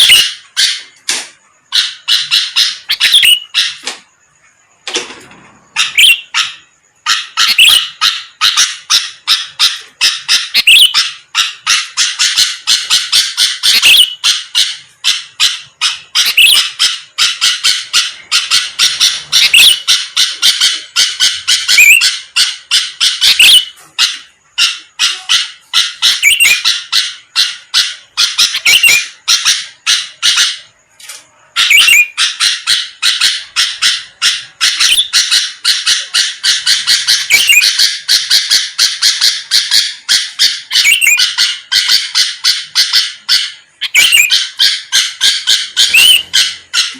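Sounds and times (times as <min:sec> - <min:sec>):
bulbul singing rapid chirps: 0:01.5 - 0:04.8, 0:05.8 - 0:46.9.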